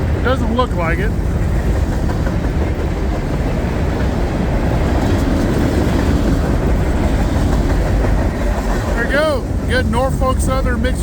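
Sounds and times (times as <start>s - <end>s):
freight train wheels on rail: 0.0s - 11.0s.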